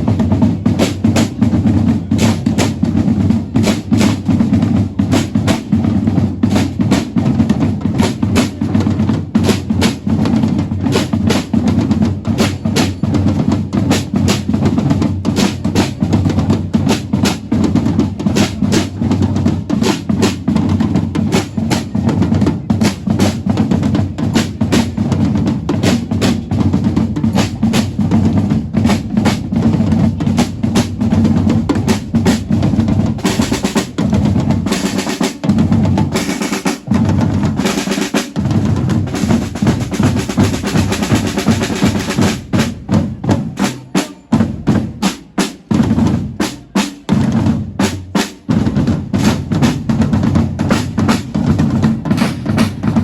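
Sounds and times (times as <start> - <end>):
snare and bass drums: 0.0 - 53.0.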